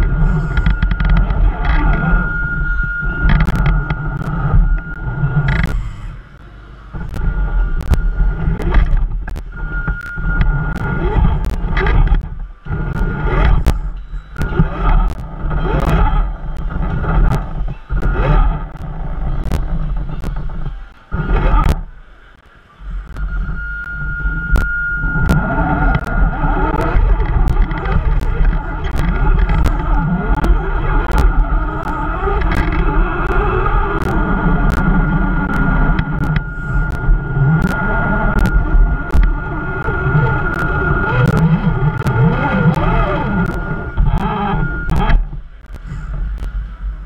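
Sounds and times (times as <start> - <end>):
sharp clicks and knocks: 0.0 - 2.0, 3.2 - 6.0, 7.0 - 46.6
electric motor whining: 0.0 - 47.0
heavy rumble: 0.0 - 47.0.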